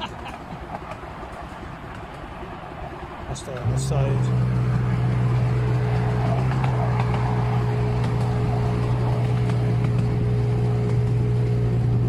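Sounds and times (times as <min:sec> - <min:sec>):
miniature train rumbling: 0:00.0 - 0:12.0
thin constant whine: 0:00.0 - 0:12.0.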